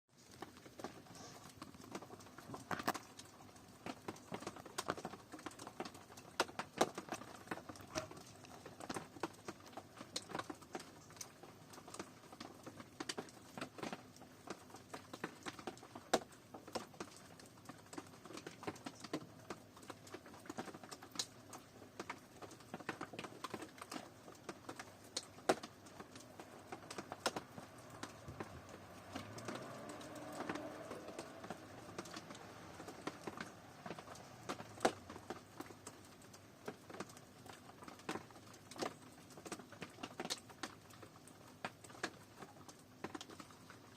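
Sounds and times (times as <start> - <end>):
rain pattering: 0.1 - 43.9
raindrops tapping sharply: 0.2 - 43.9.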